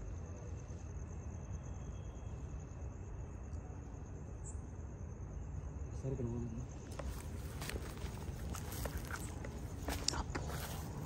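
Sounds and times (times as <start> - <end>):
high pulsing insect trill: 0.0 - 11.0
low rumbling background noise: 0.0 - 11.0.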